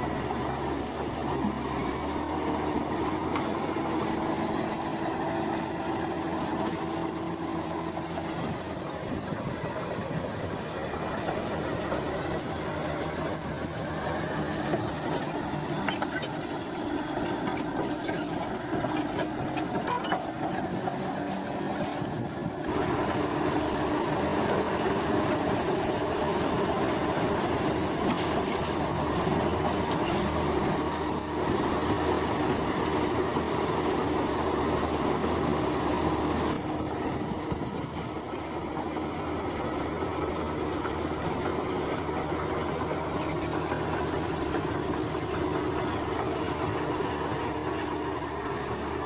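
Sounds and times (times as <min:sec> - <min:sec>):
diesel engine running: 0:00.0 - 0:49.0
steel tracks squealing and clanking: 0:00.0 - 0:49.0.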